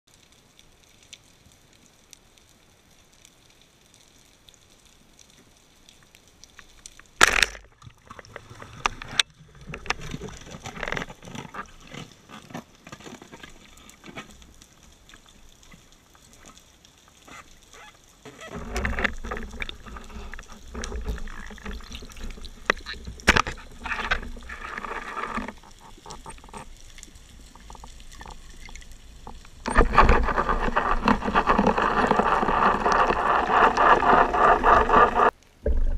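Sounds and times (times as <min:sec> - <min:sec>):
sharp clicks and knocks underwater: 0:05.2 - 0:35.9
rumbling water movement: 0:05.9 - 0:35.9.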